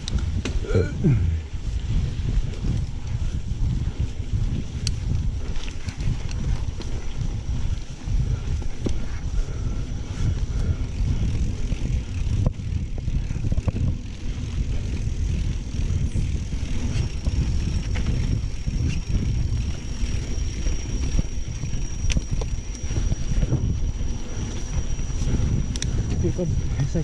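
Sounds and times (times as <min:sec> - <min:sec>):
bike clicks and rattles: 0:00.0 - 0:27.0
tyre rumble on dirt trail: 0:00.0 - 0:27.0
wind buffeting: 0:00.0 - 0:27.0.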